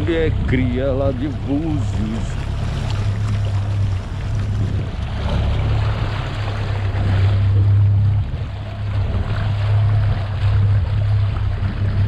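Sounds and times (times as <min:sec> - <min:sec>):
boat engine droning: 0:00.0 - 0:12.0
water rushing against hull: 0:00.0 - 0:12.0
wind: 0:00.0 - 0:12.0.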